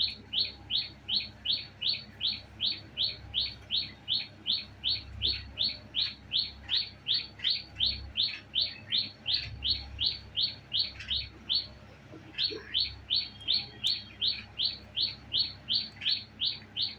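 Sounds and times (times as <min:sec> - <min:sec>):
parrot chirping: 0:00.0 - 0:16.9.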